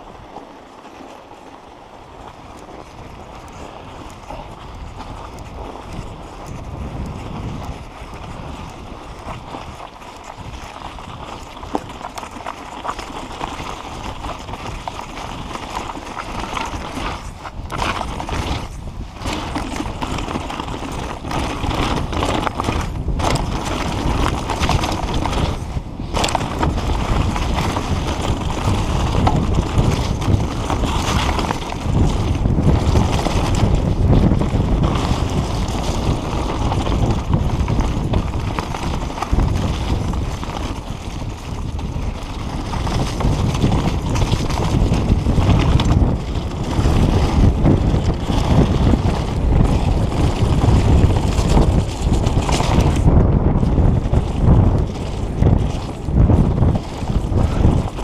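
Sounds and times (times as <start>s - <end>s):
bike tyres and frame rattling: 0.0s - 58.0s
wind buffeting microphone: 2.0s - 58.0s.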